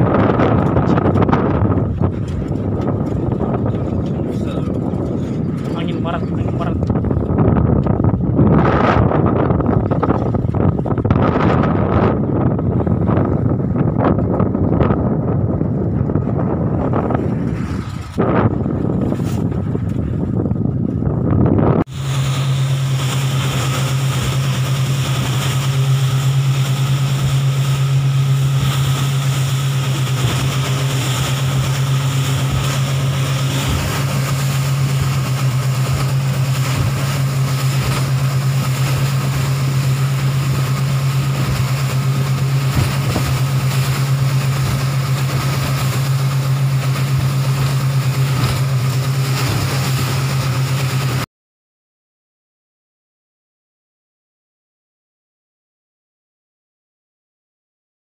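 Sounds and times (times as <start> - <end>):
outboard boat engines running: 0.0 - 51.2.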